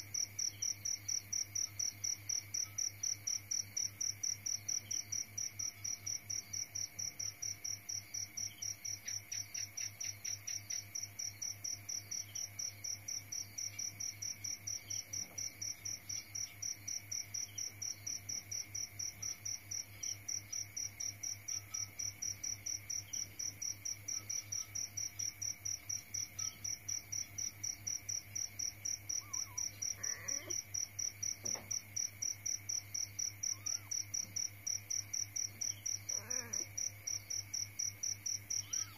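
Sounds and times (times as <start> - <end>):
insect chirping: 0.0 - 38.9.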